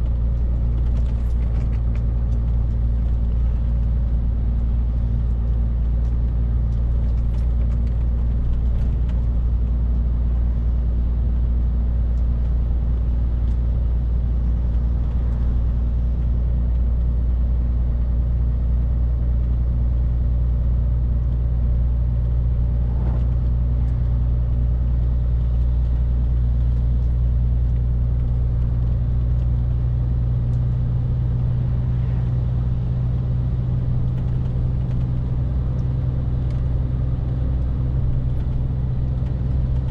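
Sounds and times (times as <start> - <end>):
lorry diesel engine droning: 0.0 - 39.9
road noise: 0.0 - 39.9.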